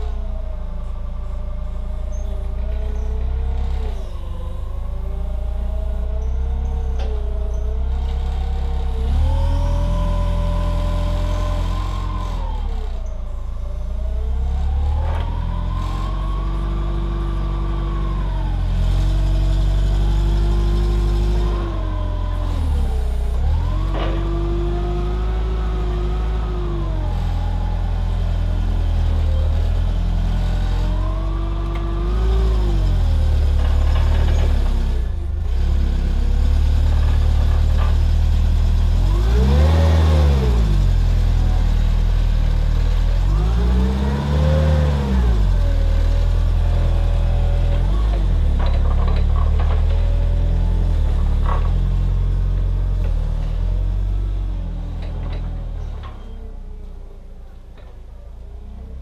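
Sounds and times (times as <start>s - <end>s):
forklift engine revving: 0.0s - 56.3s.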